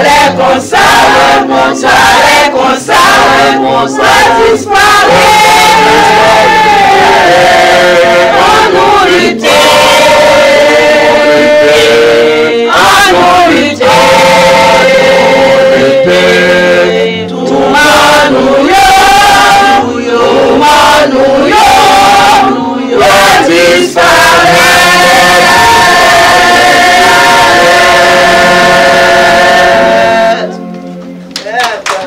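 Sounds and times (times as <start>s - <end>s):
women's choir singing: 0.0s - 30.7s.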